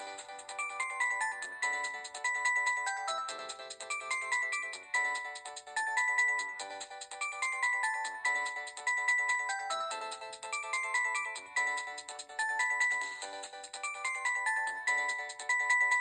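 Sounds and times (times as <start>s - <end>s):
mobile phone ringtone melody: 0.0s - 16.0s.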